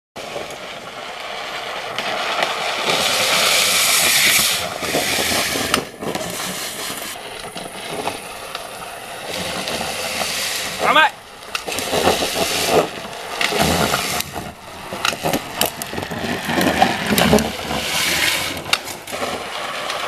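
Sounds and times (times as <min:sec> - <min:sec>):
plastic wheels scraping on asphalt: 0:00.2 - 0:20.0.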